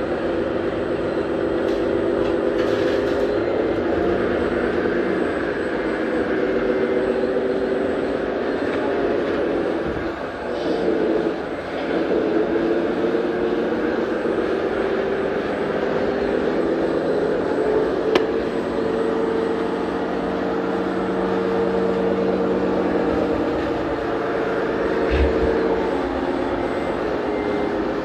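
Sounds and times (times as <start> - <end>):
model truck mechanical hum: 0.0 - 28.0.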